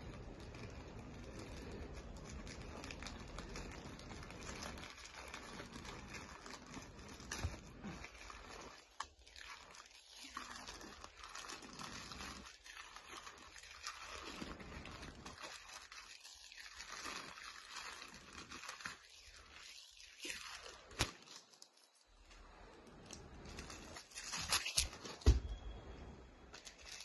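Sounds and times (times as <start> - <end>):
plastic mailer bag tearing: 0.0 - 22.2, 23.4 - 25.4, 26.5 - 27.0
plastic crinkling: 0.0 - 27.0.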